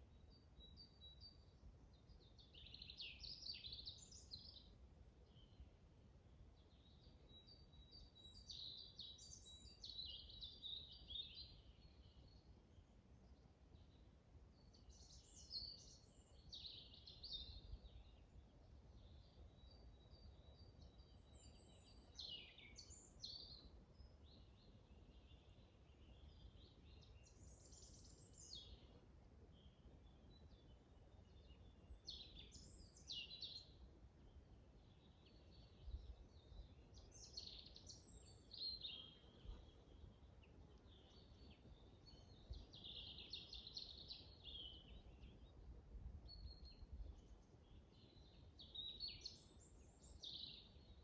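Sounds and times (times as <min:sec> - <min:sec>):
faint bird chirping: 0:00.0 - 0:51.0.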